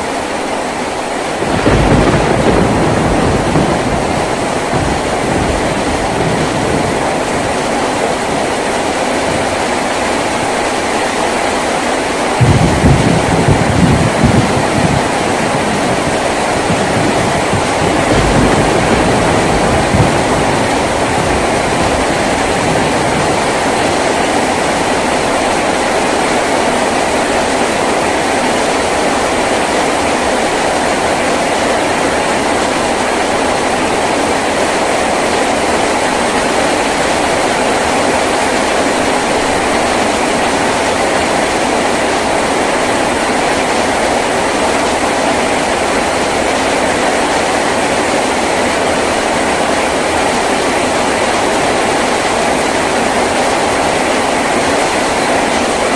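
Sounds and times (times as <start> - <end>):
heavy rain on a tin roof: 0.0 - 55.9.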